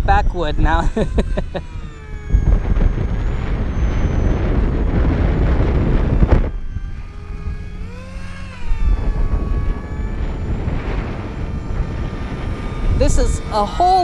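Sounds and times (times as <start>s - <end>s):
electric motor and propeller whining: 0.0s - 14.0s
wind rushing over microphone: 0.0s - 14.0s.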